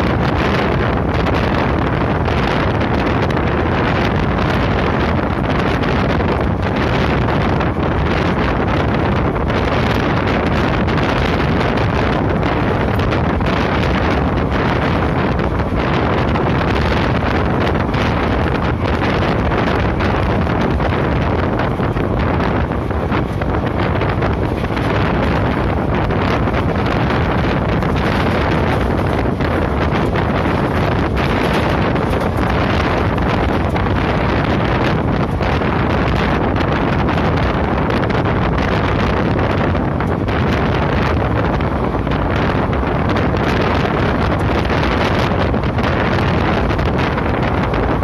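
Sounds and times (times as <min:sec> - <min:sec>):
train rumbling on track: 0:00.0 - 0:48.0
wind buffeting microphone: 0:00.0 - 0:48.0.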